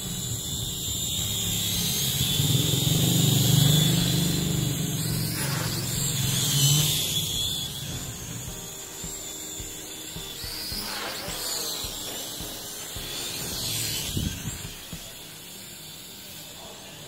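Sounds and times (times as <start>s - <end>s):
toy drone propellers buzzing: 0.0s - 17.0s.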